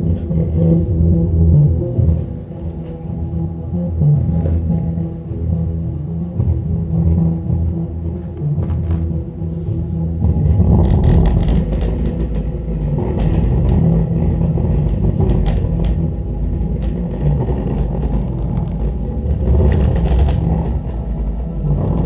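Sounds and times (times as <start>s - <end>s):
bass-heavy music through subwoofer: 0.0s - 22.0s.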